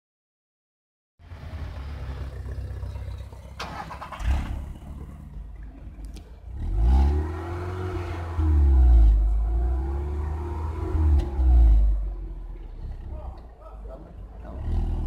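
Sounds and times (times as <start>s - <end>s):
car engine idling and revving: 1.2s - 15.0s.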